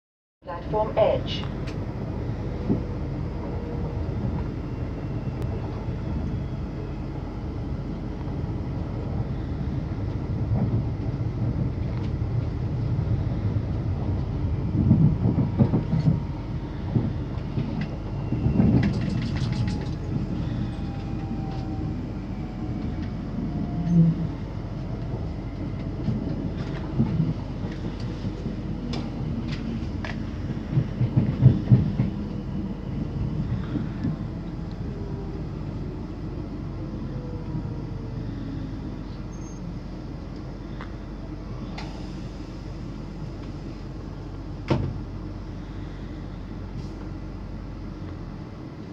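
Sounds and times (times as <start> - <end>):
train wheels rumbling on track: 0.5 - 48.9.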